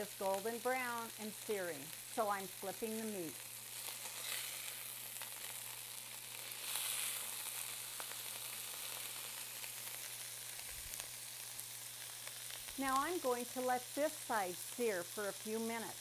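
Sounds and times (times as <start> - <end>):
ground beef sizzling in a skillet: 0.0 - 16.0.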